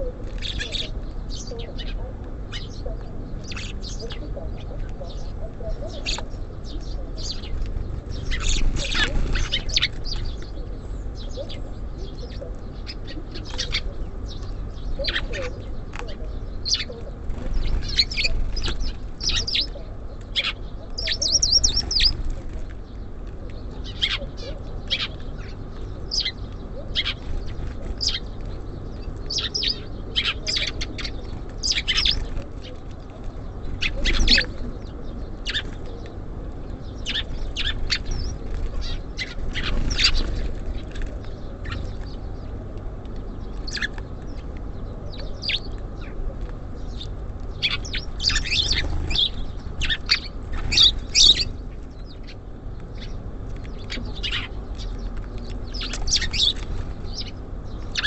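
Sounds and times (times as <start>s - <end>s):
bird trill: 0.0s - 23.0s, 23.6s - 36.2s, 36.8s - 42.6s, 46.8s - 58.0s
songbirds chirping: 0.0s - 58.0s
steady low rumble: 0.0s - 58.0s.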